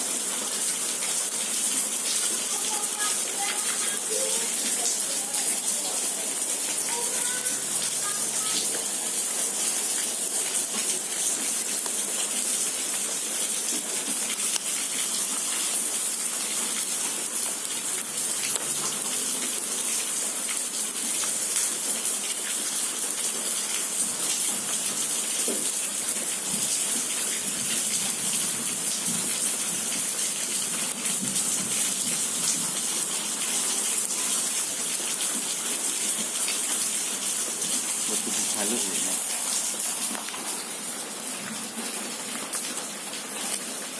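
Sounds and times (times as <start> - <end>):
water running on wet street: 0.0 - 43.9.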